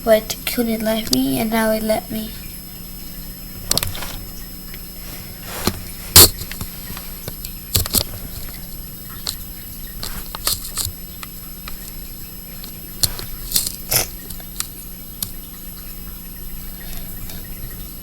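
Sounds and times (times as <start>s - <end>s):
steady low hum: 0.0s - 18.0s
water drips and taps: 2.4s - 5.0s, 5.6s - 18.0s.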